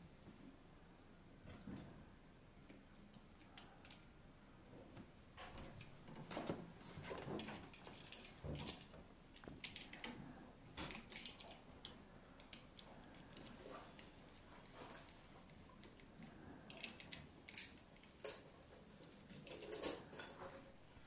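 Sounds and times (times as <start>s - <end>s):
faint clicks and rattles of wiring: 2.6s - 21.0s.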